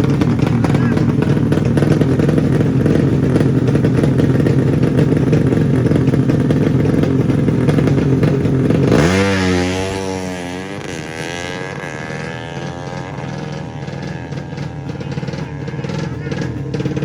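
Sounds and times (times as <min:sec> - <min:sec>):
motorcycle engines revving roughly: 0:00.0 - 0:17.0.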